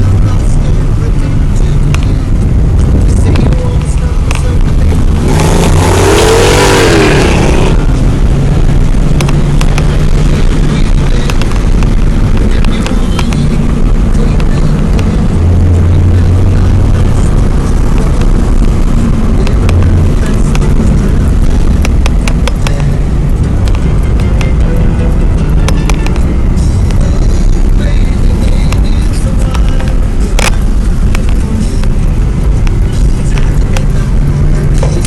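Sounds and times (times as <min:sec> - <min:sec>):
car engine and exhaust droning: 0:00.0 - 0:35.0.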